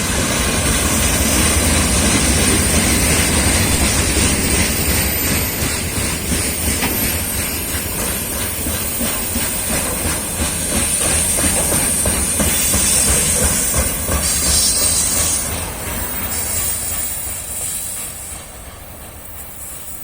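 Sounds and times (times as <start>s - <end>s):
train wheels clicking over joints: 0.0s - 19.9s
train rumble: 0.0s - 20.0s.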